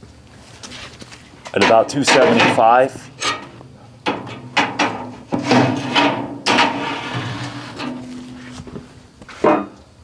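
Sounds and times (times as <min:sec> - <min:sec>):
metal racks clanking and scraping: 0:00.7 - 0:09.8.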